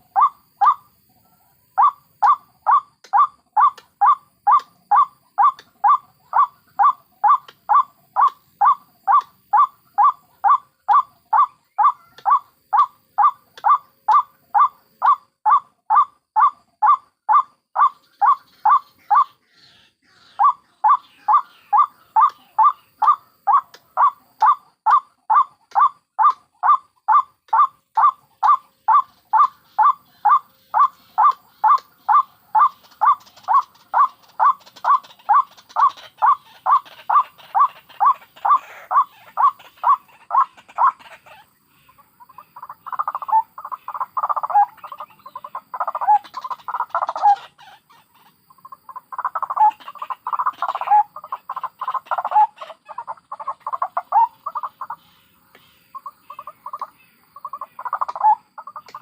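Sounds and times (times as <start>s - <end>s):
waterhen calling: 0.0s - 0.9s, 1.8s - 19.4s, 20.0s - 59.0s.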